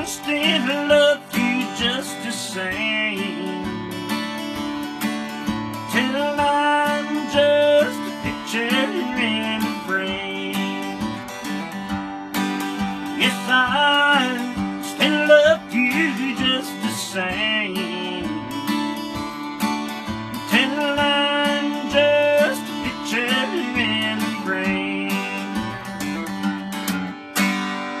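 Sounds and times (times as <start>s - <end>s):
man singing: 0.0s - 11.6s, 12.7s - 19.2s, 20.0s - 26.2s
acoustic guitar strumming: 0.0s - 28.0s.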